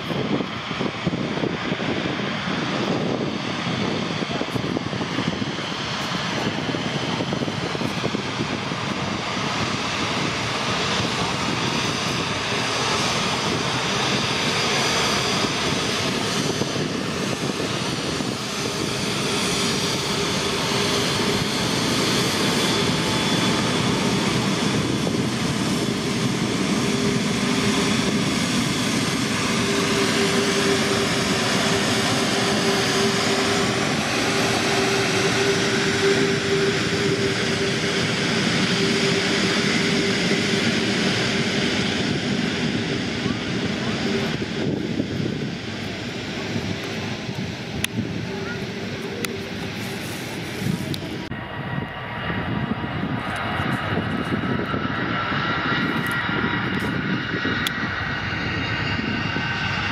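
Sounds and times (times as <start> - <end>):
high engine whine: 0.0 - 59.9
jet engines running: 0.0 - 59.9.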